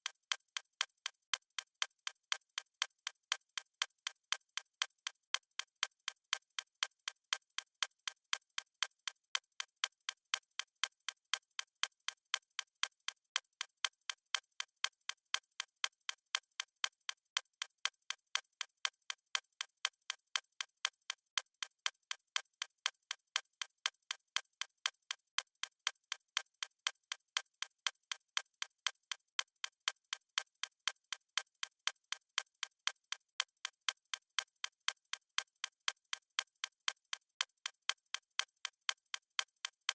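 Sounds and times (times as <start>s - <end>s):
fast stopwatch ticking: 0.0s - 39.9s.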